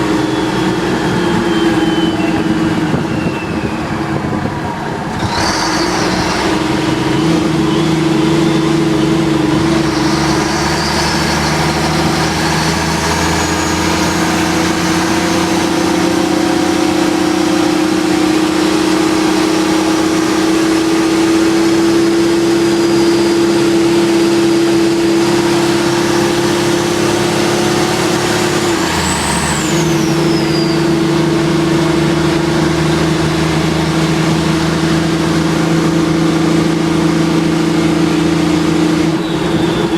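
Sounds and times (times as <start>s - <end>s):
road and wind noise: 0.0s - 39.9s
truck engine drone: 0.0s - 39.9s.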